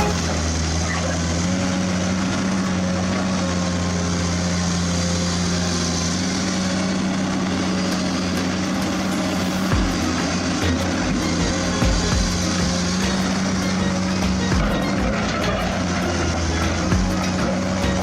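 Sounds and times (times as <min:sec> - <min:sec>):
toy truck electric motor humming: 0:00.0 - 0:18.0.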